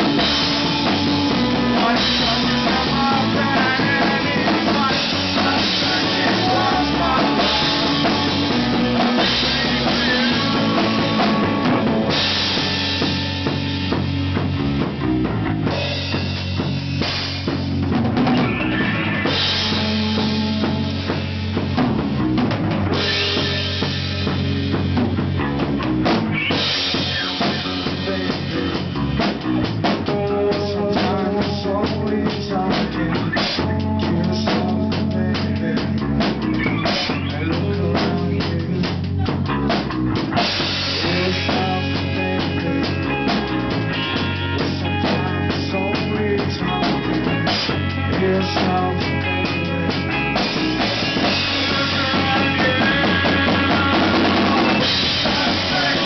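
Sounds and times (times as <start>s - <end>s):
rock music: 0.0s - 56.0s.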